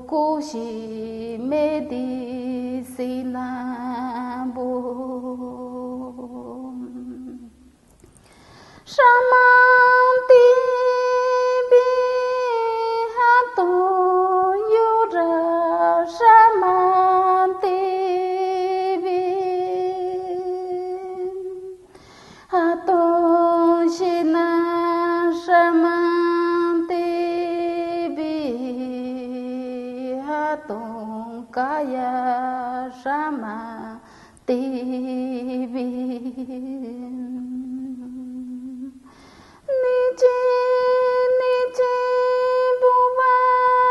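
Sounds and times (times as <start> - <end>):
woman chanting: 0.0 - 7.6, 8.9 - 21.8, 22.5 - 39.0, 39.7 - 43.9.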